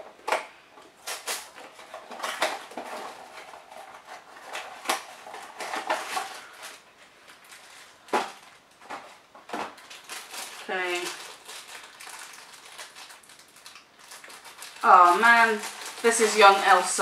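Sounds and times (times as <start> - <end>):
foil bag crinkling: 1.0 - 17.0.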